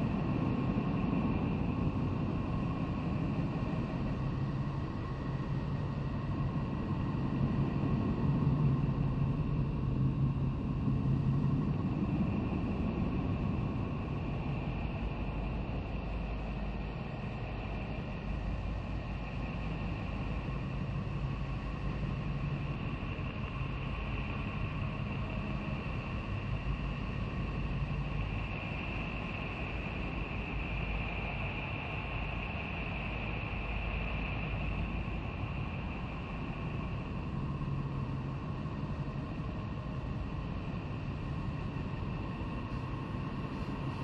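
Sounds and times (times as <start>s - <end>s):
faint high steady hum: 0.0s - 44.0s.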